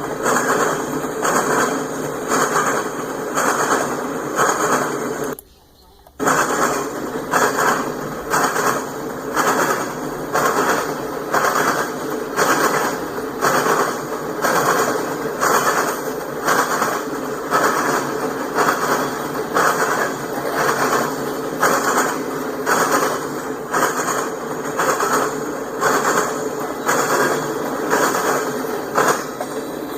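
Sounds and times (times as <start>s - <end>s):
train wheels clacking over rail joints: 0.0s - 5.4s, 6.1s - 29.9s.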